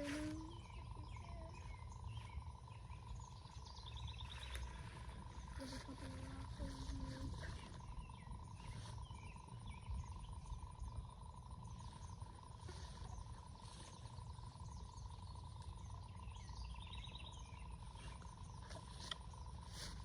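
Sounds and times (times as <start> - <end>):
bird chirps: 0.0 - 19.9
insect drone: 0.0 - 20.0.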